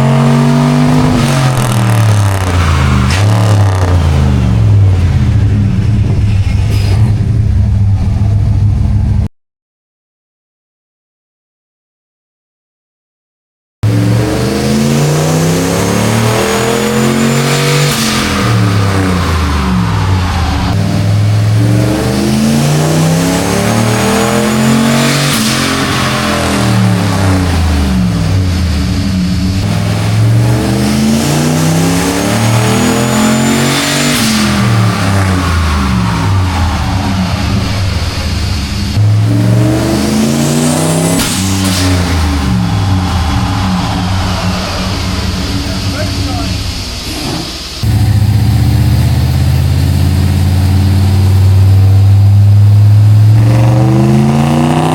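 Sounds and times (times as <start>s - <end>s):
truck engine revving: 0.0s - 9.3s, 13.8s - 54.9s.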